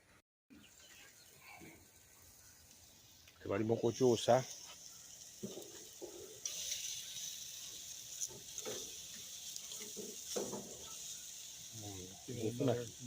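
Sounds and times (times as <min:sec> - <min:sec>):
steaks sizzling on a grill: 0:00.6 - 0:13.0.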